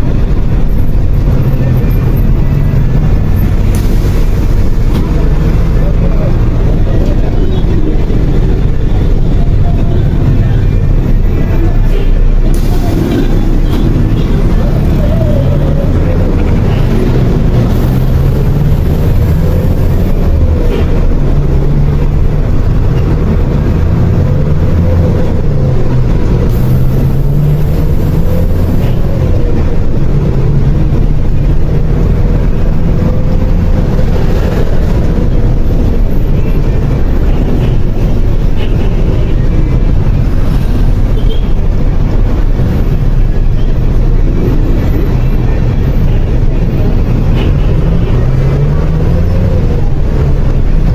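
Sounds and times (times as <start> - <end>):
city traffic noise: 0.0 - 50.9
heavy vehicle engine rumble: 0.0 - 50.9.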